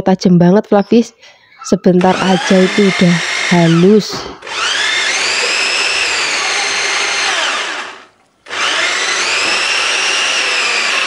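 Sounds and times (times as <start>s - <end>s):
chopper motor whining: 2.0s - 11.0s.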